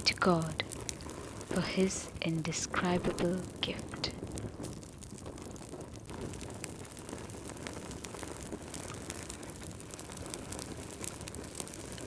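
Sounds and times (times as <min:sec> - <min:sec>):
fire popping and snapping: 0:00.0 - 0:12.0
low hiss of burning: 0:00.0 - 0:12.0
wood fire crackling: 0:00.0 - 0:12.0.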